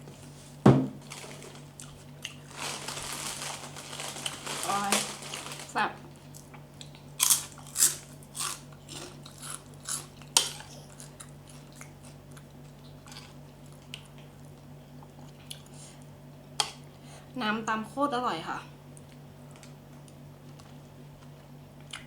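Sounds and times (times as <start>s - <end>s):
crunching and chewing fruit: 1.0s - 16.8s, 18.9s - 22.0s.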